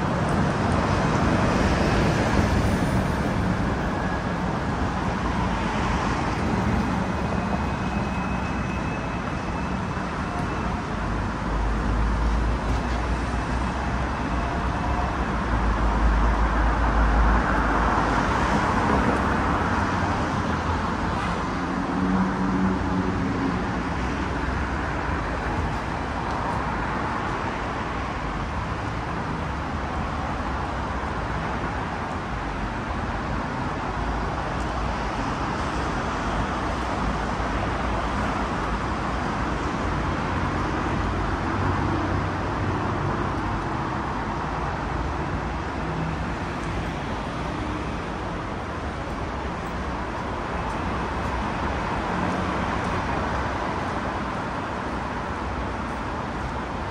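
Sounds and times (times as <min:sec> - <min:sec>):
street traffic passing: 0:00.0 - 0:56.9.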